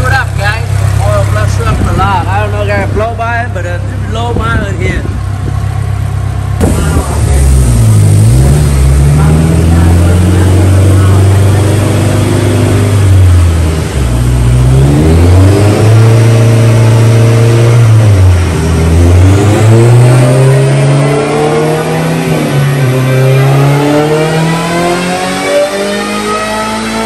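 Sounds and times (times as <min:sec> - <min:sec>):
turbocharged engine revving: 0:00.0 - 0:27.0.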